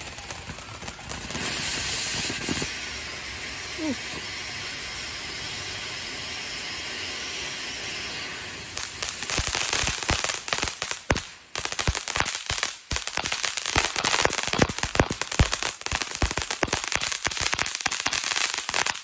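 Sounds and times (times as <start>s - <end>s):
firework crackling and popping: 0.0s - 19.0s
firework fountain hissing: 0.0s - 19.0s.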